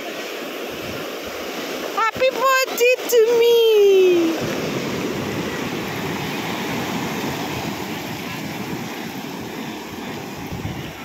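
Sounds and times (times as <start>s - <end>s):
surf washing over sand: 0.0s - 11.0s.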